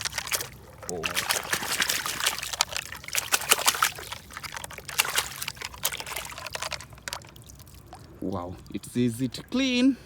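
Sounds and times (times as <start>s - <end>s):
water splashing and trickling: 0.0s - 10.0s.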